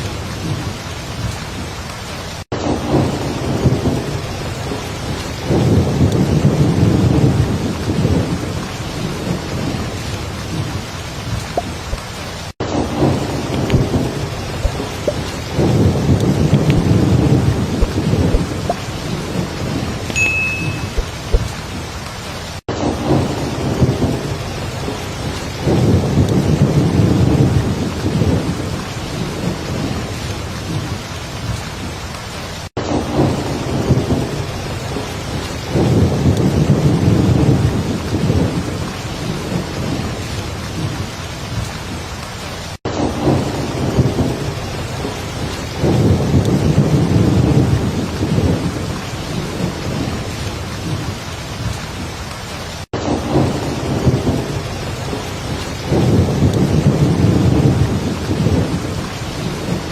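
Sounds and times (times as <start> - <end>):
heavy rain: 0.0 - 59.9
low thunder rumbling: 2.5 - 20.1, 22.7 - 32.0, 32.8 - 41.7, 42.9 - 59.9.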